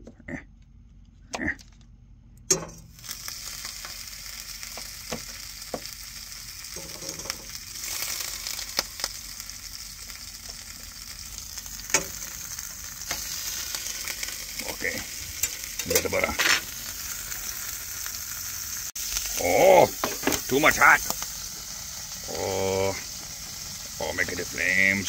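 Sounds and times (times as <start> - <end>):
butter sizzling in a frying pan: 2.8 - 25.0.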